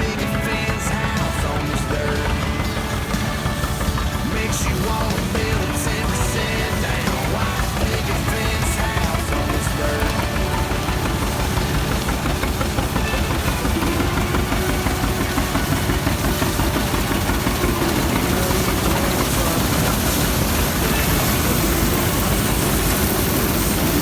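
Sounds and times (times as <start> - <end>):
heavy tractor engine running: 0.0 - 24.0.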